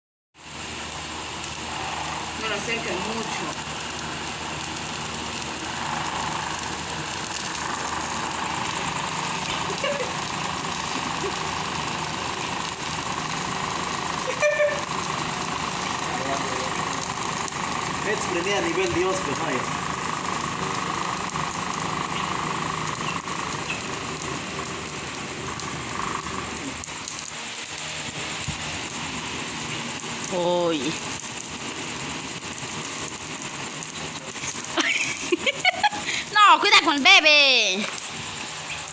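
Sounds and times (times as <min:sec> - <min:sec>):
bonfire rushing and crackling: 0:00.4 - 0:38.9
steady hum: 0:00.4 - 0:38.9.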